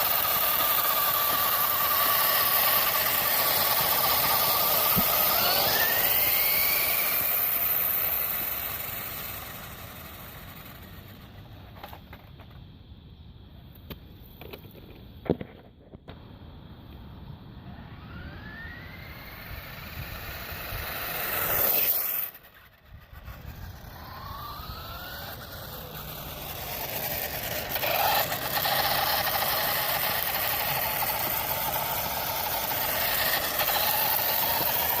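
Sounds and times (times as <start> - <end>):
toy truck motor whining: 0.0 - 12.5, 17.7 - 35.0.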